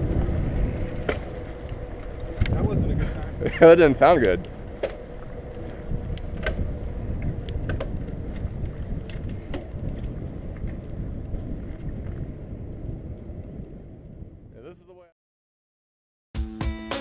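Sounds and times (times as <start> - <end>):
bike clicks and rattles: 0.0 - 13.8
bike tyre noise on dirt: 0.0 - 14.6
wind on microphone: 0.0 - 15.0.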